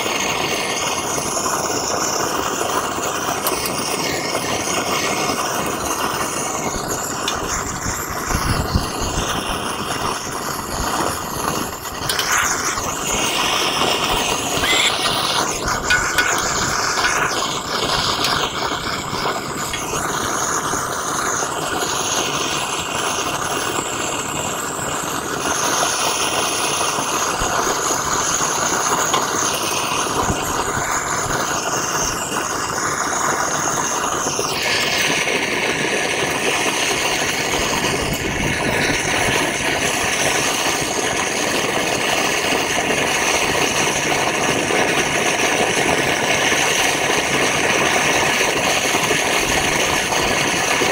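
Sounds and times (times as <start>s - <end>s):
blowtorch flame rushing: 0.0s - 50.9s.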